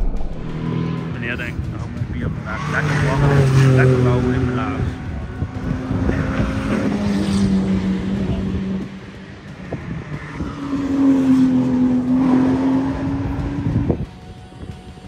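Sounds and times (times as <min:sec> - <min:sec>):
race car engines passing: 0:00.0 - 0:14.2.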